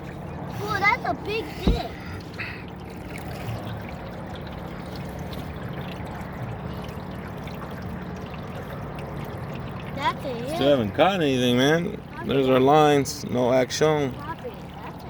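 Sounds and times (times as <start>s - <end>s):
water lapping against boat: 0.0s - 15.0s.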